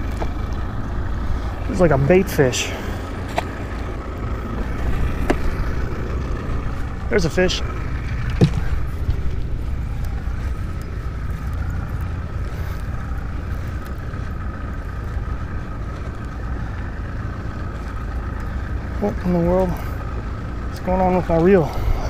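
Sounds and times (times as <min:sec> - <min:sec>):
low wind rumble on microphone: 0:00.0 - 0:19.1.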